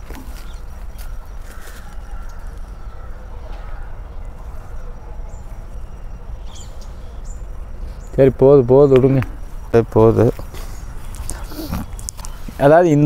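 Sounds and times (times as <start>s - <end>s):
low rumble: 0.0s - 12.5s
bird calls: 0.0s - 13.0s.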